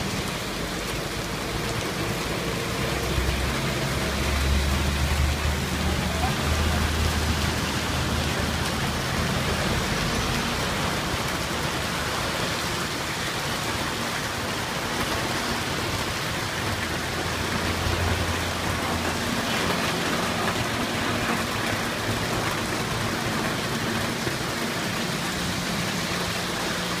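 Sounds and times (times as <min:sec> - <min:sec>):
heavy rain on wet street: 0:00.0 - 0:27.0
vehicles driving through water: 0:00.0 - 0:27.0.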